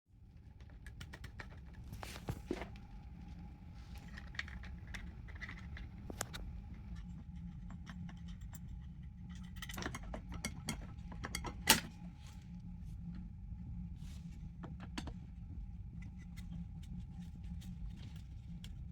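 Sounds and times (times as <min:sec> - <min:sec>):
steady low hum: 0:00.1 - 0:18.9.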